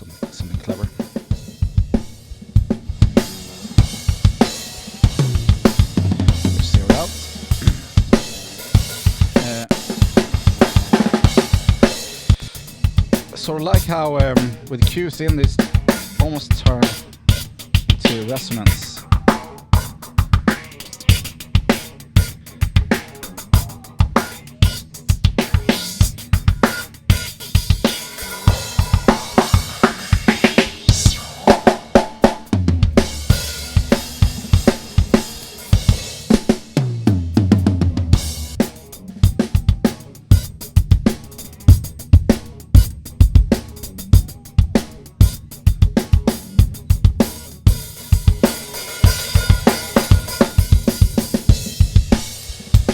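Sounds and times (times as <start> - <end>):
rock drum kit beat: 0.0 - 52.9.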